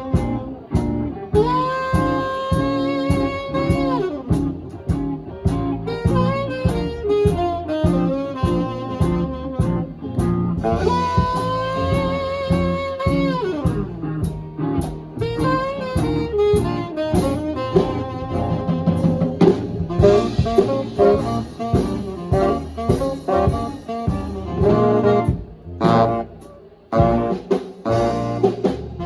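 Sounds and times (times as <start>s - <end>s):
swing band playing: 0.0s - 29.0s.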